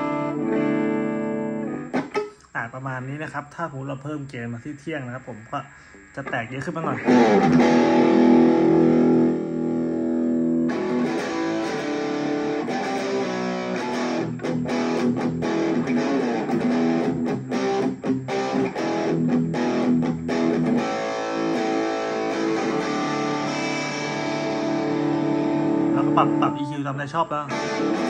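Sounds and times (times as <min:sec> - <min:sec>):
distorted electric guitar chords: 0:00.0 - 0:02.5, 0:06.1 - 0:26.9, 0:27.5 - 0:28.0.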